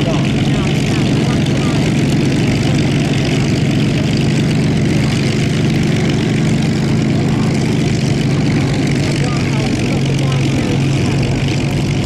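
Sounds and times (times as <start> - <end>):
biplane engine and propeller: 0.0 - 12.0.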